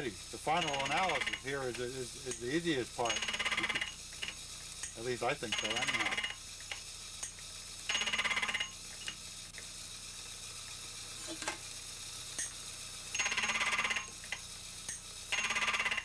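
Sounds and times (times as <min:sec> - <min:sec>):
milling machine running: 0:00.0 - 0:09.2, 0:12.3 - 0:16.0
milling cutter buzzing through brass: 0:00.0 - 0:16.0.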